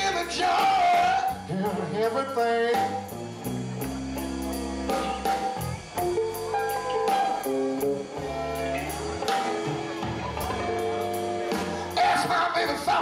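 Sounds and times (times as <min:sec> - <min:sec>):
bass notes: 0:00.0 - 0:13.0
drum kit with cymbals: 0:00.0 - 0:13.0
electric guitar riff: 0:00.0 - 0:13.0.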